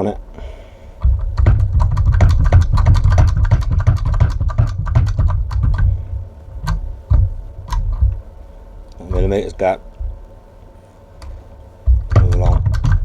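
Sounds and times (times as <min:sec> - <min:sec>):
low handling thumps: 0:00.0 - 0:13.0.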